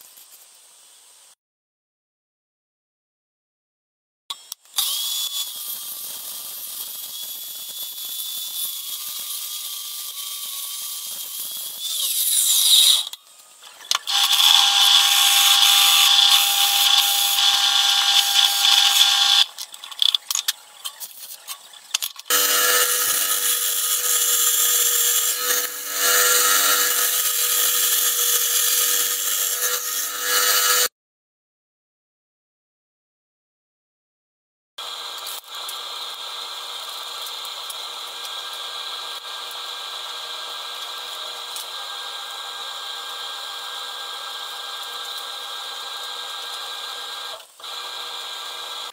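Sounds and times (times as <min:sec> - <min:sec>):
bandsaw cutting metal: 0:04.3 - 0:30.9, 0:34.8 - 0:48.9
hole saw boring metal: 0:04.3 - 0:30.9, 0:34.8 - 0:48.9
mitre saw cutting metal: 0:04.3 - 0:30.9, 0:34.8 - 0:48.9.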